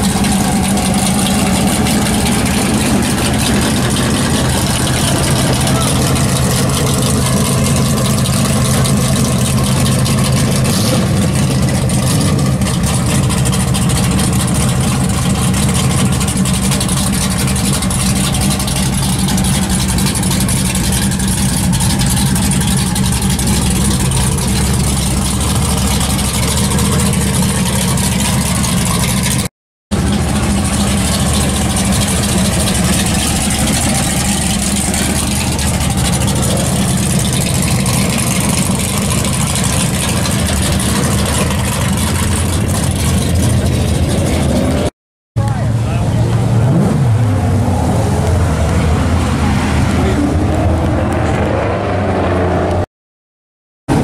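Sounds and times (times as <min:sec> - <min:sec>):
car engine idling: 0:00.0 - 0:51.3.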